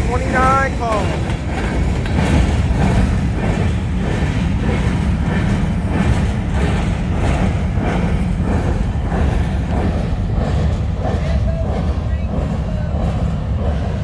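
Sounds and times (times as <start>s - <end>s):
faint rail clacks: 0.0s - 14.0s
freight train rumbling past: 0.0s - 14.0s.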